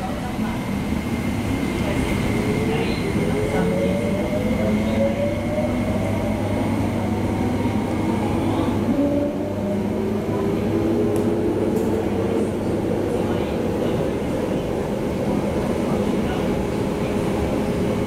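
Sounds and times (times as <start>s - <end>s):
faint train whine: 0.0s - 18.0s
wheels rumbling on rail: 0.0s - 18.0s.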